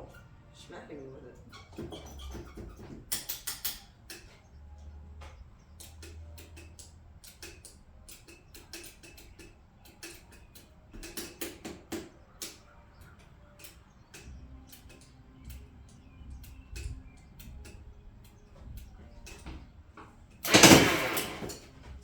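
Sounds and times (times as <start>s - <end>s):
light clicks and taps: 2.3s - 20.4s.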